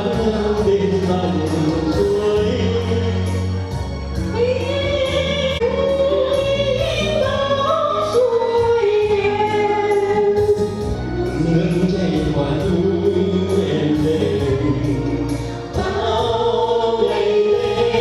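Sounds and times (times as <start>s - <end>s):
instrumental accompaniment with beat: 0.0s - 18.0s.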